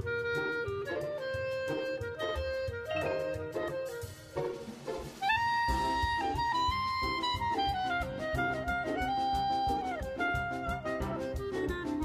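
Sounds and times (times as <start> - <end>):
instrumental melody of held notes: 0.0 - 12.0.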